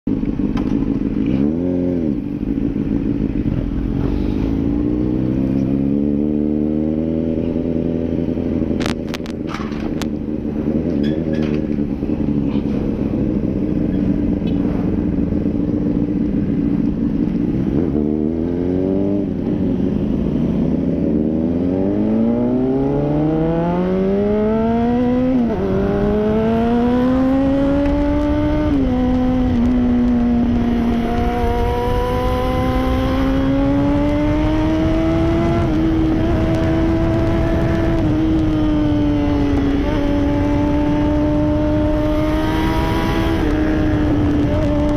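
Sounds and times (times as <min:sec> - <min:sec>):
motorcycle engine revving: 0:00.1 - 0:44.9.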